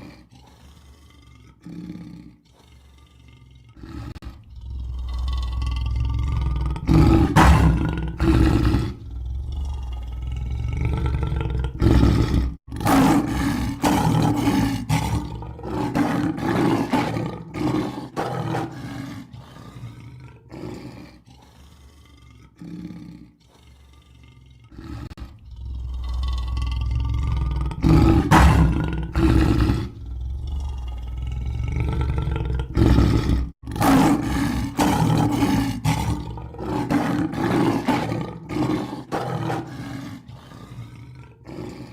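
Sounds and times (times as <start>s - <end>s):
lion roaring: 0.0s - 41.9s.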